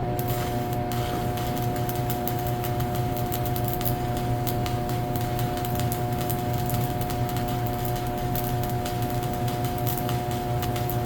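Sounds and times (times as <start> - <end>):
welder hum: 0.0 - 11.0
welding arc crackling: 0.0 - 11.0.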